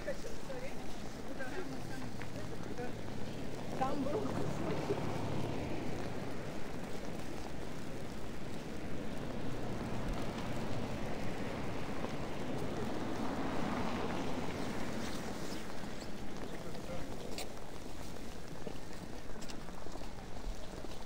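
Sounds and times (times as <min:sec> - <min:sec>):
traffic on snowy road: 0:00.0 - 0:21.0.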